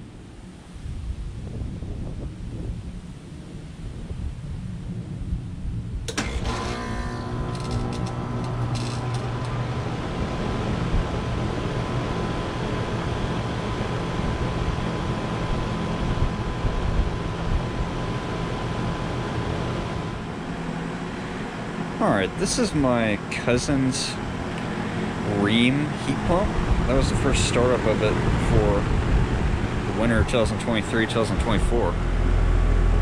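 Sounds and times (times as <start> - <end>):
heat pump compressor and fan humming: 5.8 - 33.0.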